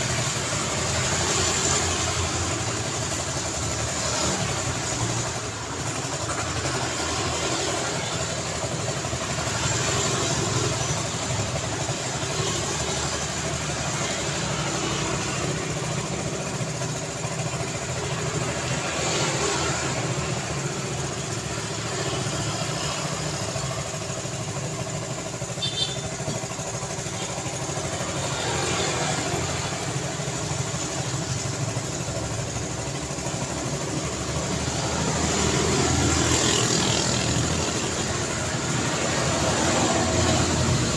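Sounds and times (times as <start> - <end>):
road traffic roar: 0.0 - 40.9.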